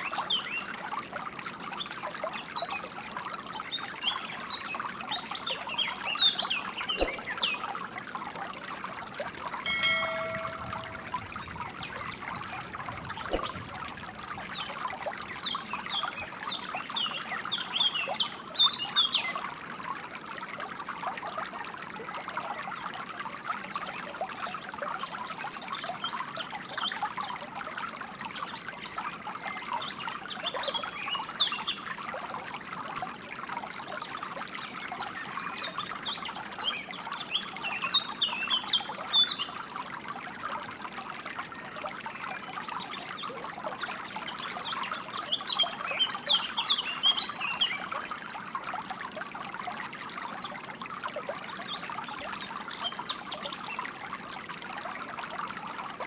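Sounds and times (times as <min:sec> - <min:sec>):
water trickling and babbling: 0:00.0 - 0:56.0.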